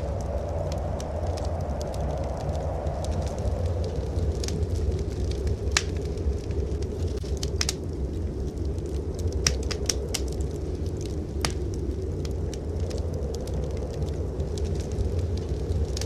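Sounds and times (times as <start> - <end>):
blizzard wind rumble: 0.0 - 16.0
wood fire crackling: 0.0 - 16.0.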